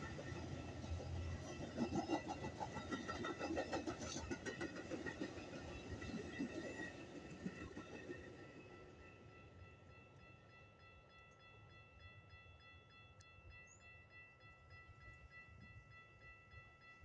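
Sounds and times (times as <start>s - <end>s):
railroad crossing bell ringing: 0.0s - 3.5s, 5.8s - 17.0s.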